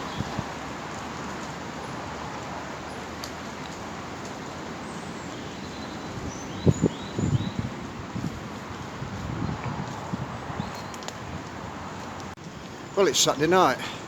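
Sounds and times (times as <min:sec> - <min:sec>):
wind through trees: 0:00.0 - 0:14.0.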